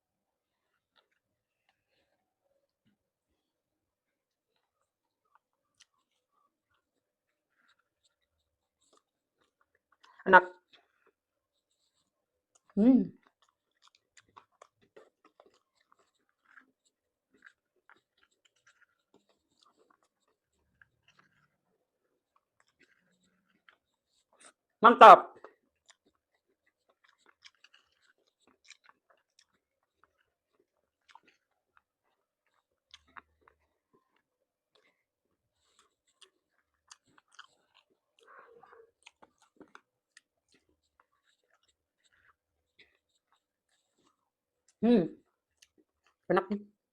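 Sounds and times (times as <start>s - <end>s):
chewing mouth sounds: 0.4s - 3.5s, 4.3s - 46.3s.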